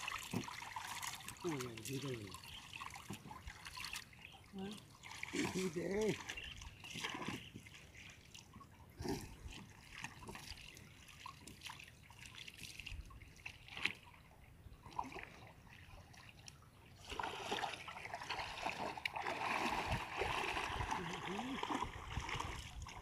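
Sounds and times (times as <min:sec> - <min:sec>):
water splashing around legs: 0:00.0 - 0:23.0.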